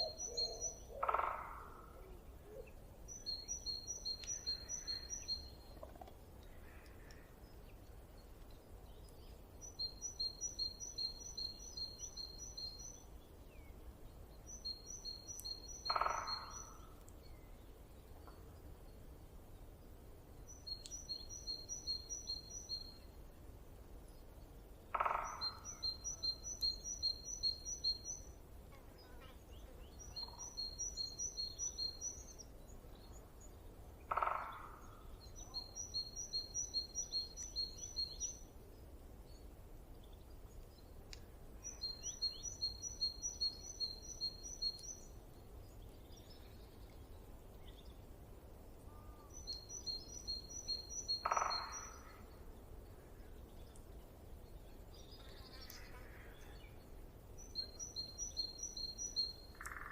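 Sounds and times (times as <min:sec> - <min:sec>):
songbird chirping song: 0:00.0 - 0:59.9.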